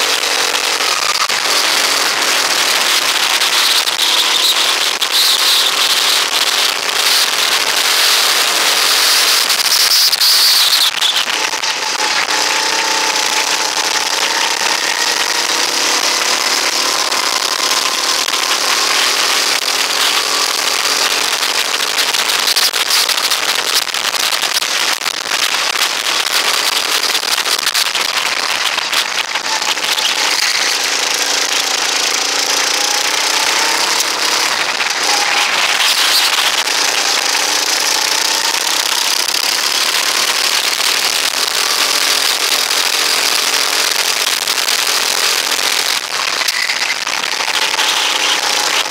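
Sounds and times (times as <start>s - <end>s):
go-kart engine racing: 0.0s - 48.9s.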